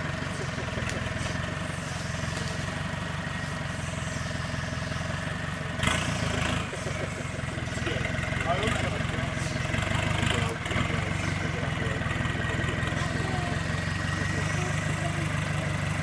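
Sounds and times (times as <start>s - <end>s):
off-road vehicle engine at low revs: 0.0s - 16.0s.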